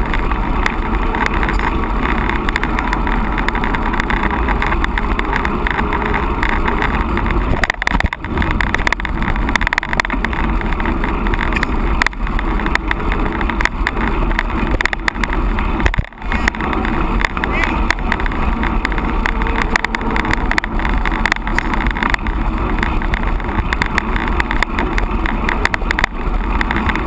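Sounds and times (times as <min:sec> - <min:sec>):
bike rattling on rough trail: 0:00.0 - 0:27.0
wind buffeting microphone: 0:00.0 - 0:27.0.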